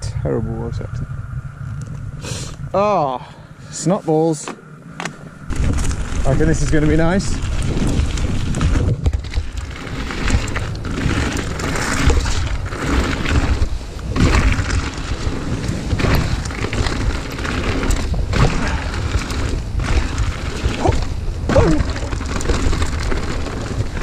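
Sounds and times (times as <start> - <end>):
wind buffeting microphone: 0.0 - 24.0
bike tyres crunching over stones: 3.7 - 24.0.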